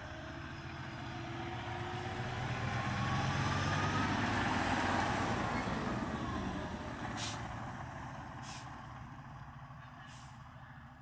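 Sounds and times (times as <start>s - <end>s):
fire truck diesel engine: 0.0s - 11.0s.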